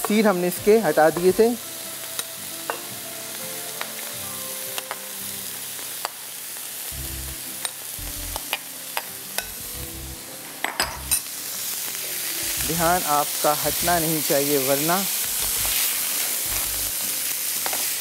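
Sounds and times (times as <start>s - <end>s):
steak sizzling in a pan: 0.0s - 18.0s.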